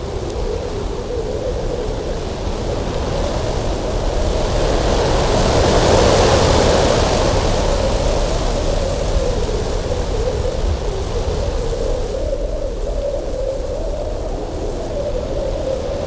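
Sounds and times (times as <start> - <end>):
wind blowing hard: 0.0 - 16.0.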